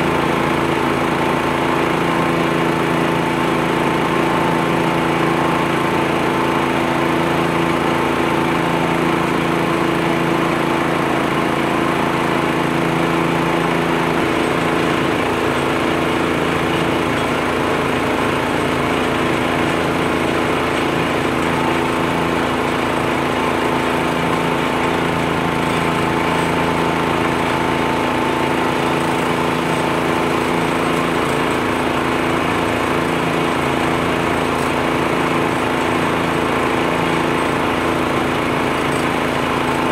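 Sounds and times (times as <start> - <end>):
leaf blower running: 0.0 - 39.9
tractor engine: 0.0 - 39.9.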